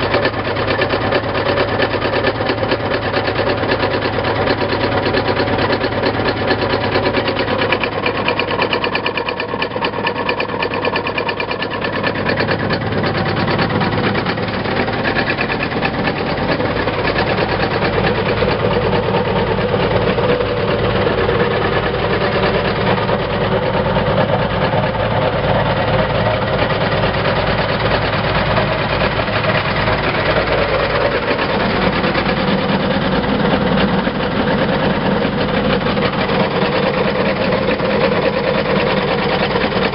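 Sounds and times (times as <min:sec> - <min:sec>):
machine engine running steadily: 0:00.0 - 0:39.9.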